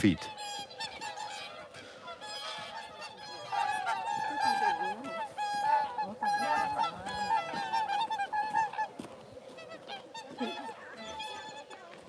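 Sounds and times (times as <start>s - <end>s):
swans honking: 0.0s - 12.0s.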